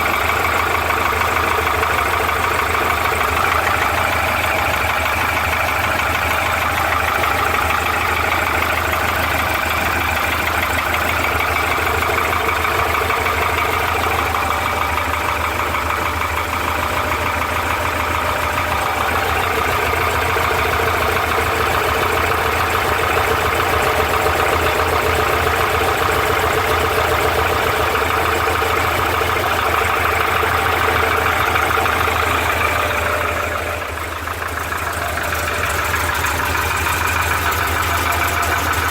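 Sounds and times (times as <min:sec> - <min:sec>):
car engine idling with rapid knock: 0:00.0 - 0:38.9.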